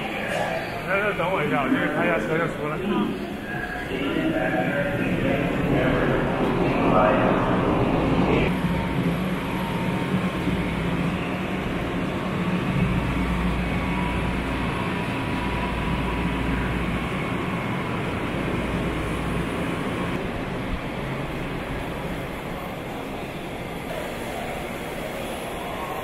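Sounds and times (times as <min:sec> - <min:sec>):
electric trains humming: 0:00.0 - 0:26.0.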